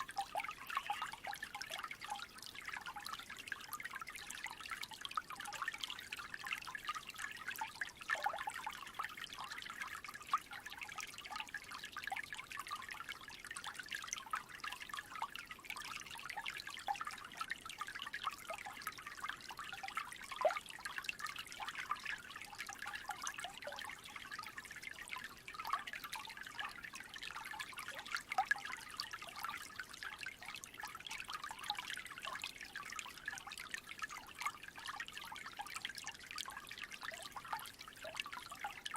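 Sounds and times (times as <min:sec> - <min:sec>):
creek trickling: 0:00.0 - 0:38.9.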